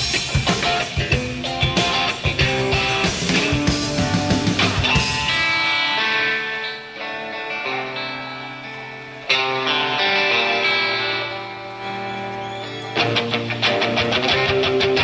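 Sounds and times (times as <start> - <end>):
electric guitar chords ringing: 0.0 - 15.0
rock band playing: 0.0 - 15.0.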